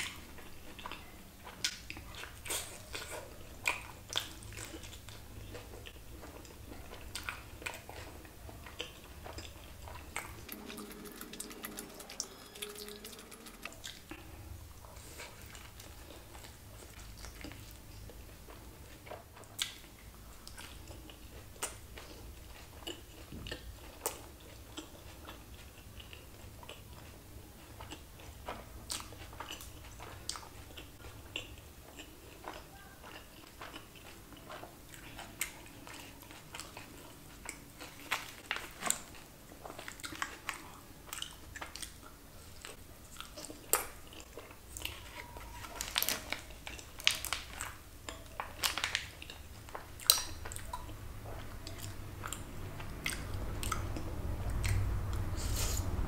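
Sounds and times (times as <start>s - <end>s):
chewing with crunches: 0.0s - 56.0s.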